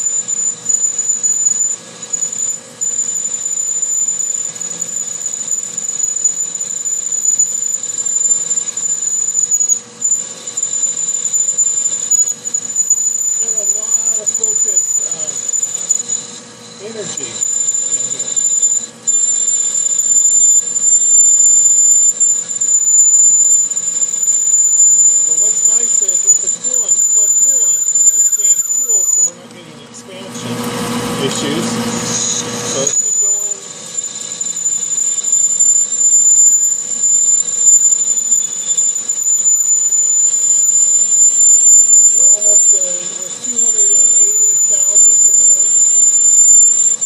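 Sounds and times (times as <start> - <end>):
drill squealing in steel: 0.0 - 47.0
high-pitched machine whine: 0.0 - 47.0
lathe running: 0.0 - 47.0
metal cutting and coolant hiss: 0.0 - 47.0.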